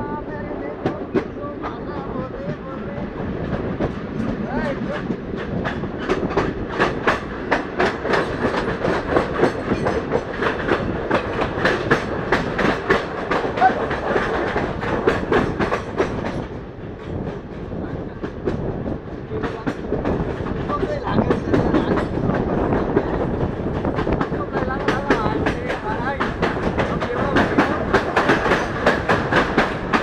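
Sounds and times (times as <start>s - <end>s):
train rushing rumble: 0.0s - 30.0s
wheels clicking over rail joints: 3.1s - 18.7s, 19.4s - 30.0s.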